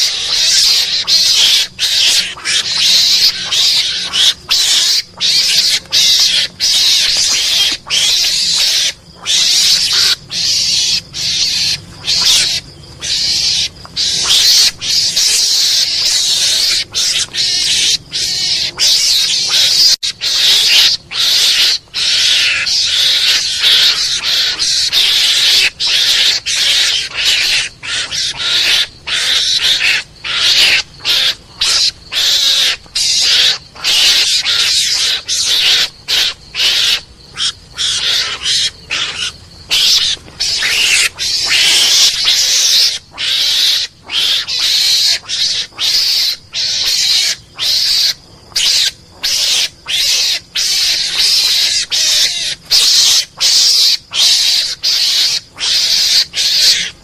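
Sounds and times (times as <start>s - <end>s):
harsh hissing animal calls: 0.0s - 57.0s.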